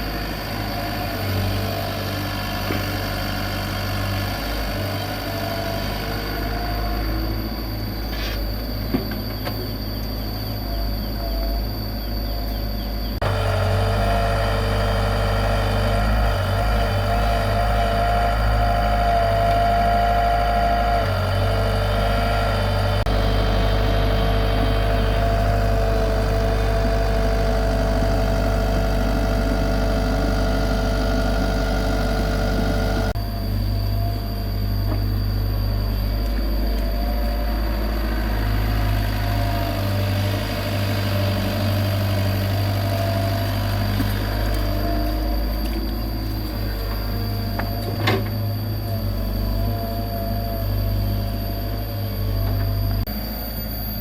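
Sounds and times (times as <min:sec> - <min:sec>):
excavator diesel engine running: 0:00.0 - 0:54.0
steady whine: 0:04.3 - 0:54.0.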